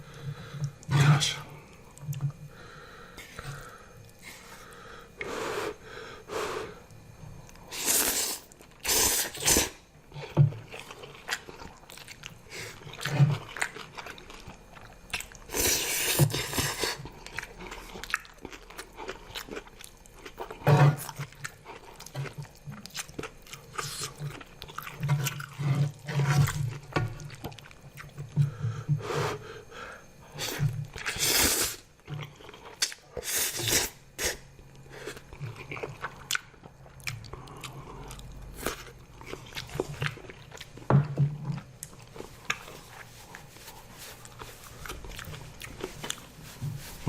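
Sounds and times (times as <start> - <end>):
person chewing: 6.8 - 28.4, 30.3 - 47.0.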